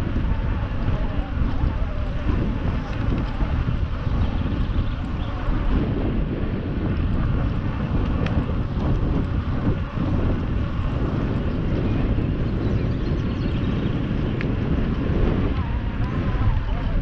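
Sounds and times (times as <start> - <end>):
outdoor background noise: 0.0 - 17.0
wind rumbling on microphone: 0.0 - 17.0.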